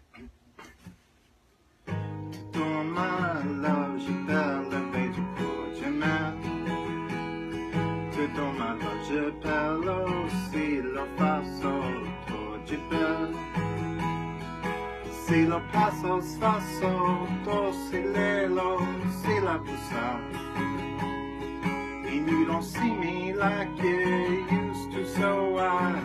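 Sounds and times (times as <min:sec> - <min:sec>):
acoustic guitar song: 0:00.0 - 0:26.0.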